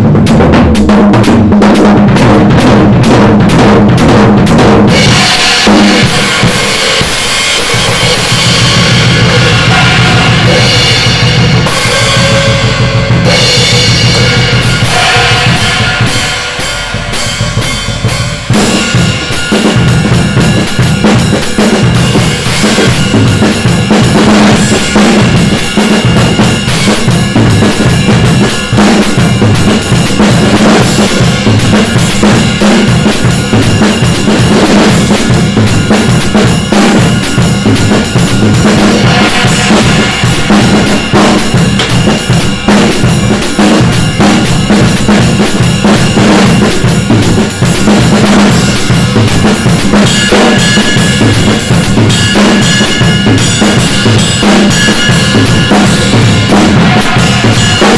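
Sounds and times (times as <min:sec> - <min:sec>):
drum kit playing: 0:00.0 - 0:57.9.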